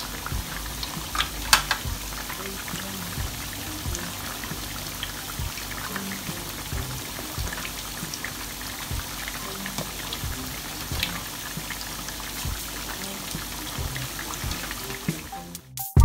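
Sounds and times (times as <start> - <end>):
hot oil bubbling and crackling: 0.0 - 15.3
background music: 0.0 - 16.0.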